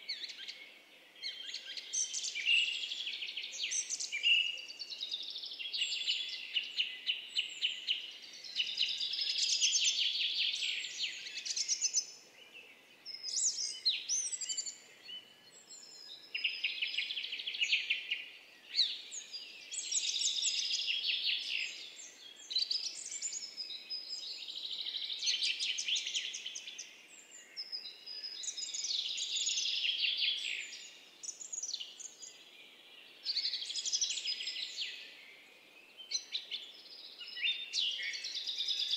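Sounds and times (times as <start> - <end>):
faint outdoor hiss: 0.0 - 38.9
small birds chirping: 0.0 - 38.9.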